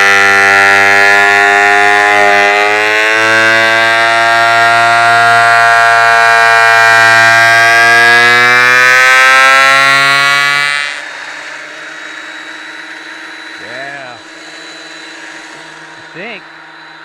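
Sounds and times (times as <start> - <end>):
thickness planer motor whining: 0.0 - 17.0.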